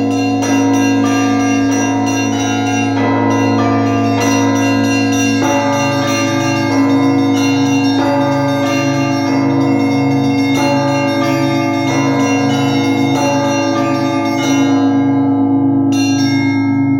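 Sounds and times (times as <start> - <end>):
church bells ringing: 0.0 - 16.9.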